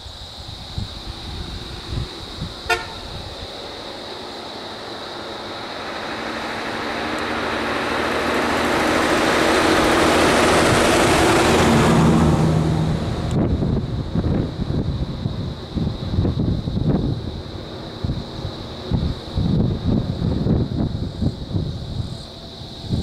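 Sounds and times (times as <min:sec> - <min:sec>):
lorry diesel engine: 0:00.0 - 0:23.0.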